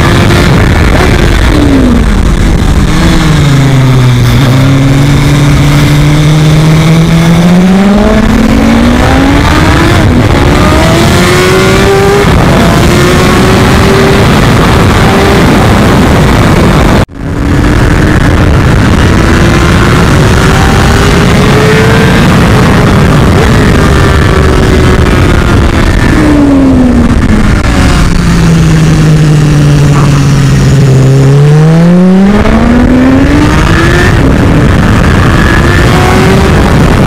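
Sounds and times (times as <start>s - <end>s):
heavy wind rush: 0.0s - 37.0s
motorcycle engine at speed: 0.0s - 37.0s.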